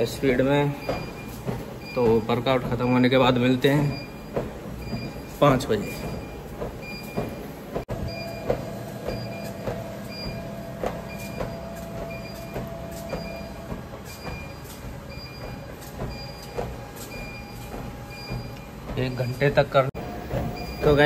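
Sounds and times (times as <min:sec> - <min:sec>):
footfalls on treadmill: 0:00.0 - 0:21.0
treadmill motor hum: 0:00.0 - 0:21.0.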